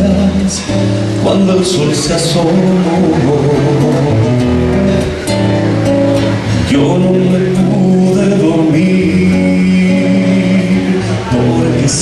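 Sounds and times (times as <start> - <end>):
man singing: 0.0 - 5.2, 6.3 - 12.0
strummed acoustic guitar: 0.0 - 12.0.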